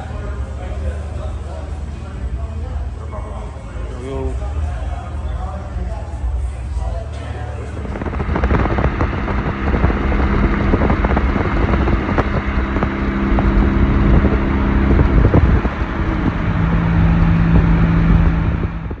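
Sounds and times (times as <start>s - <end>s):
car engine exhaust drone: 0.0s - 19.0s.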